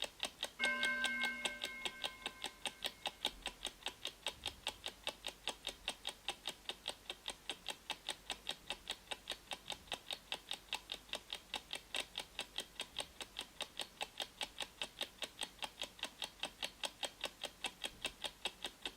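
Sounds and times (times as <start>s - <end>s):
clock ticking: 0.0s - 18.9s.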